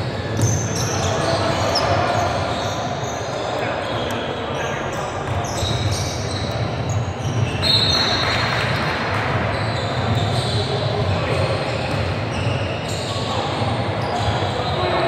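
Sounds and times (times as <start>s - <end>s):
sneakers squeaking: 0.0s - 15.0s
voices echoing in a gym: 0.0s - 15.0s.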